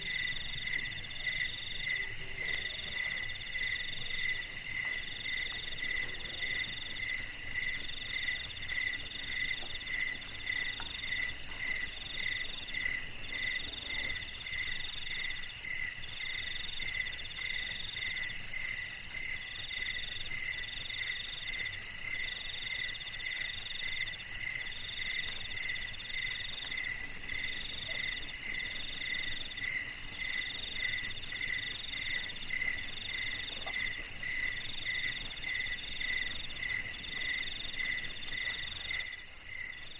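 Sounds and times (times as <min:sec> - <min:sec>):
low cricket chirp: 0:00.0 - 0:39.9
mid-pitched insect trill: 0:00.0 - 0:39.9.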